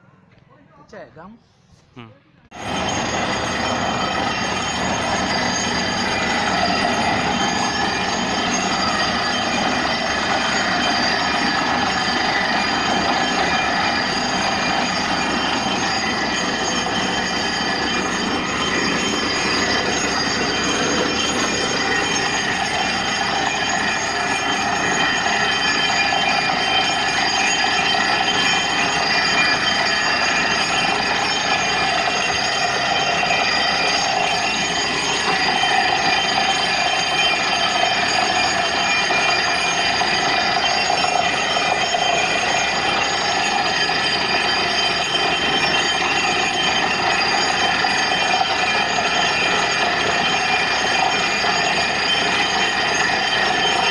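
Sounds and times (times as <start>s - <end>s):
high whine: 1.8s - 53.9s
drilling rig running: 2.5s - 53.9s.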